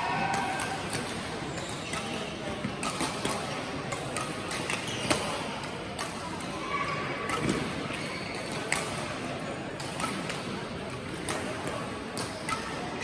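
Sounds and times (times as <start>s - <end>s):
rackets striking shuttlecocks: 0.0s - 6.6s, 7.2s - 13.0s
murmur of voices: 0.0s - 13.0s.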